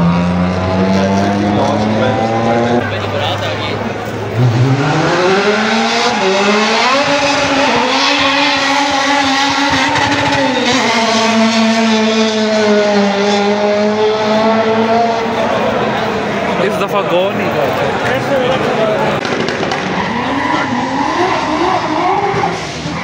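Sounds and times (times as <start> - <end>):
drag car engine accelerating: 0.0 - 23.0.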